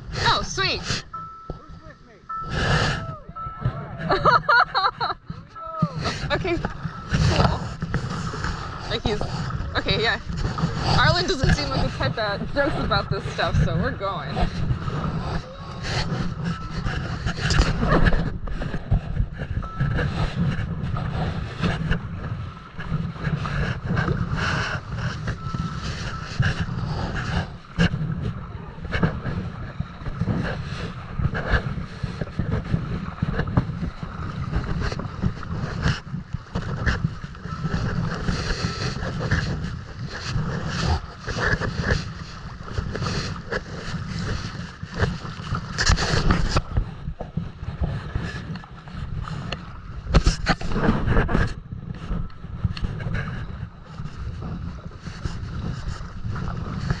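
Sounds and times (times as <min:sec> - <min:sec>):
paddle strokes: 0:00.0 - 0:57.0
wind buffeting microphone: 0:00.0 - 0:57.0
water splashes and knocks: 0:03.5 - 0:57.0.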